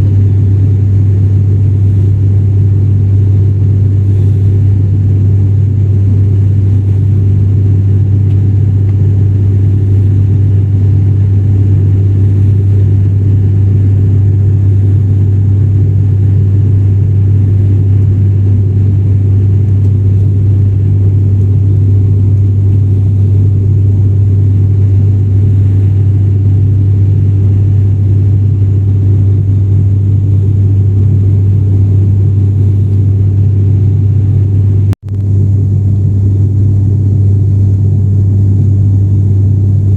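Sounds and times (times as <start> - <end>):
airliner propeller drone in cabin: 0.0 - 39.9.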